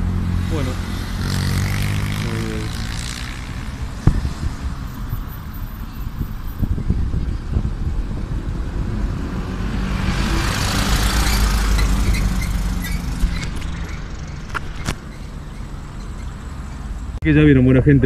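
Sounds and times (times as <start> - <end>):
vehicle driving past: 0.0 - 6.2, 7.7 - 17.2.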